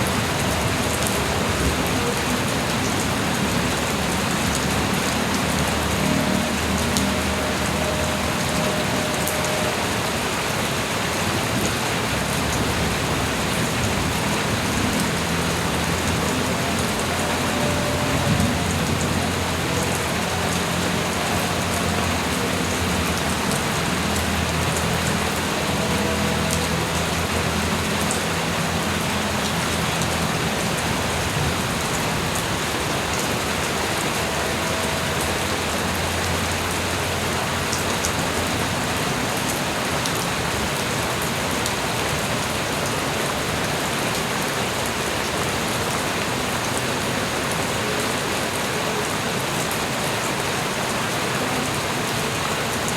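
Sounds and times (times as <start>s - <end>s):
light rain falling: 0.0s - 52.9s.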